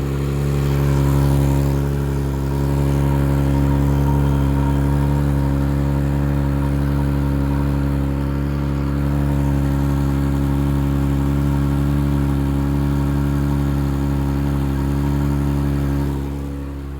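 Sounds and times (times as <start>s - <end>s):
car low drone: 0.0s - 16.9s.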